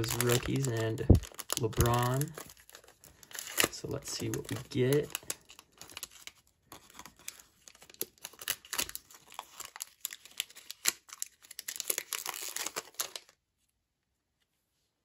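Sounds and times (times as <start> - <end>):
foil wrapper crinkling and tearing: 0.0 - 13.4.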